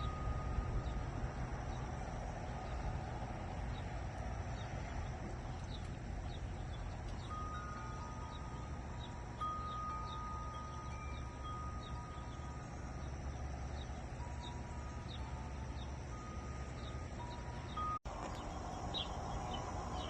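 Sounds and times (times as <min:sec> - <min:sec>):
wind chimes ringing: 0:00.0 - 0:03.6, 0:06.6 - 0:20.0.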